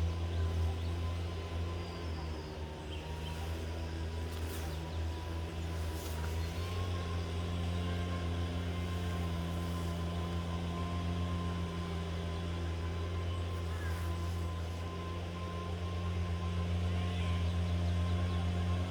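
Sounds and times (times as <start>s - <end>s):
engine droning: 0.0s - 18.9s.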